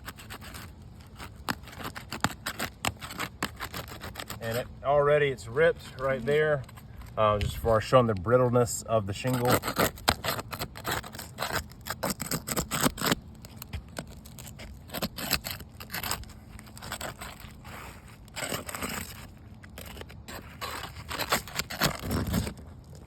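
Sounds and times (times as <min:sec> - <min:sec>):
shingle crackling as it tears: 0:00.0 - 0:04.8, 0:05.5 - 0:23.0
crowbar scraping under shingle: 0:00.0 - 0:23.0.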